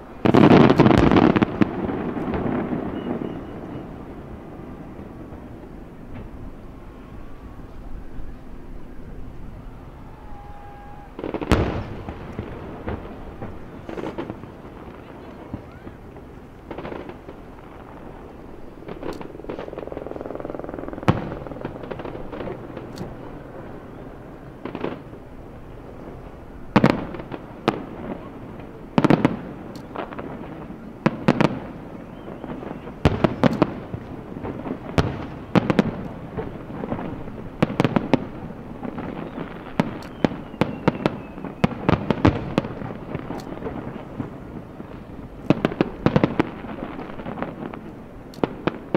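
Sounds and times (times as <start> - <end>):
firework shells booming: 0.2 - 6.6, 10.7 - 48.9.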